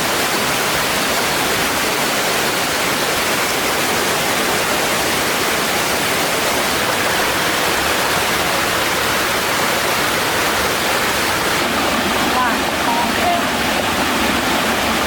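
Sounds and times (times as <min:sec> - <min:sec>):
water flowing over rocks: 0:00.0 - 0:15.0.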